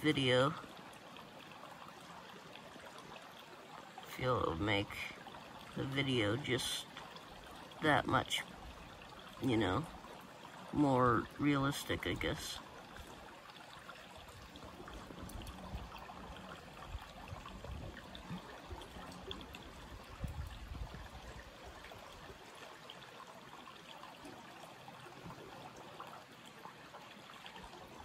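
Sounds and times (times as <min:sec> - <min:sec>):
stream trickling over stones: 0:00.0 - 0:28.0.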